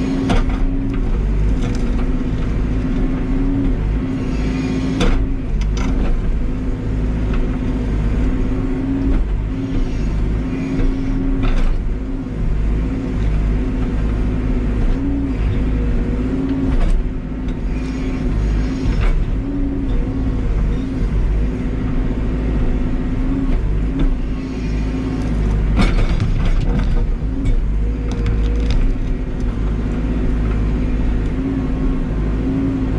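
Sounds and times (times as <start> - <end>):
backhoe diesel engine running hard: 0.0 - 32.9.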